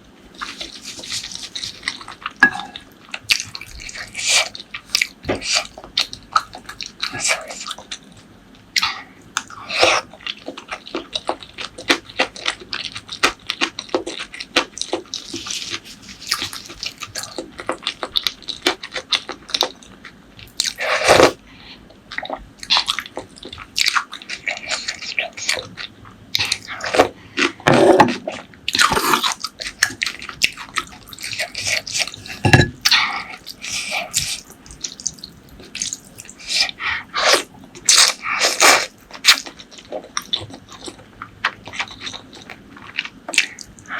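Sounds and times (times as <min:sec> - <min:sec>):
chewing and biting: 0:00.4 - 0:08.2, 0:08.8 - 0:21.4, 0:22.1 - 0:43.9.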